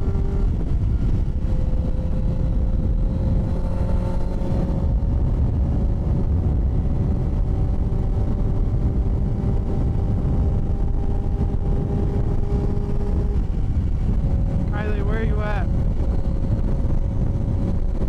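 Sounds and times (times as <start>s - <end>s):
motorcycle engine cruising: 0.0s - 18.0s
wind rumble on microphone: 0.0s - 18.0s.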